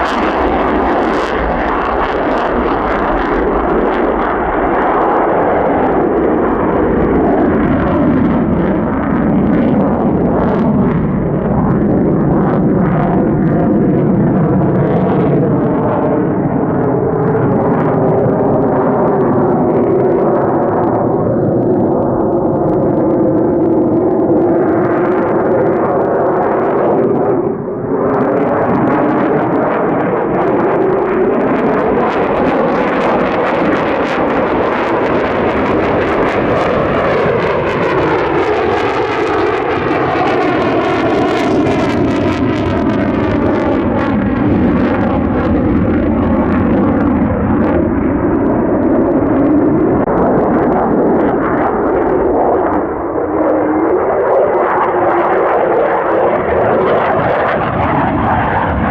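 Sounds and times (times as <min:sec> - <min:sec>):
jet flying overhead: 0:00.0 - 0:58.9.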